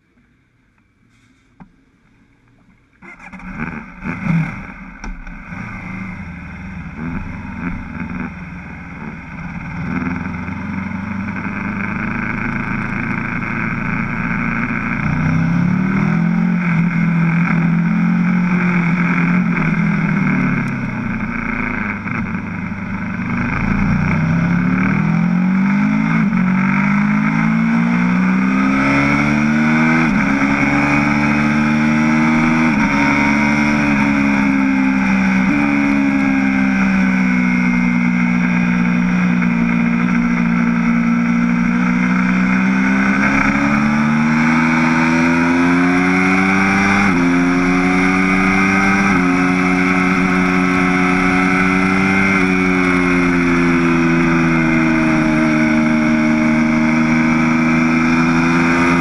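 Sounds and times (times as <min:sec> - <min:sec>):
motorcycle engine revving: 0:03.0 - 0:59.0.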